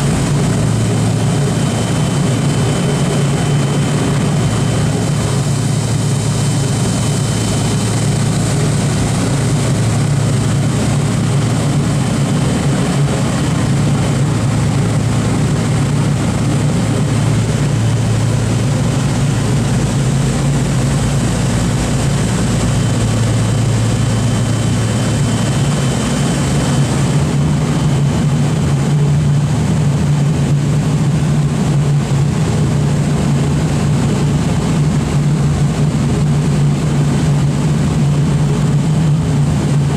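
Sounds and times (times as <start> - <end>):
propeller aircraft engines droning: 0.0 - 39.9.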